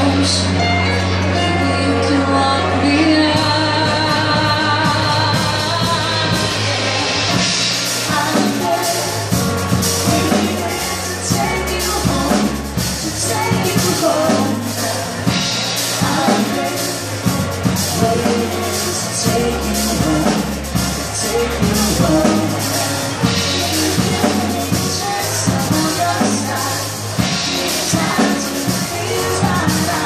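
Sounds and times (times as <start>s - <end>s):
keyboards: 0.0s - 30.0s
low bass notes: 0.0s - 30.0s
drum kit beat: 3.3s - 30.0s.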